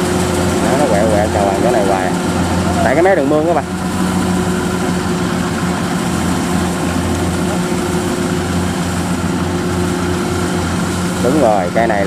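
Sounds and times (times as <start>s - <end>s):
combine harvester engine running: 0.0s - 12.0s.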